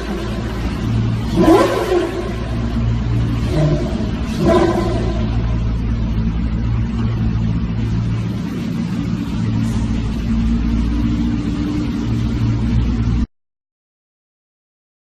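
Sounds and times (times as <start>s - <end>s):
car engine humming: 0.0s - 13.3s.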